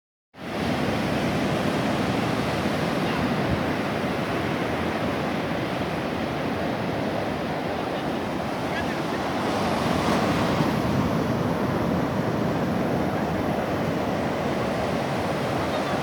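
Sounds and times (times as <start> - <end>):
waves breaking on shore: 0.4 - 16.0.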